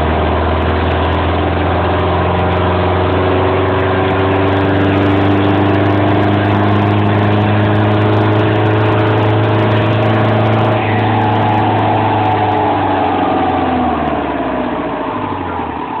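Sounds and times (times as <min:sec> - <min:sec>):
diesel engine at high revs: 0:00.0 - 0:16.0
dyno rollers winding down: 0:00.0 - 0:16.0.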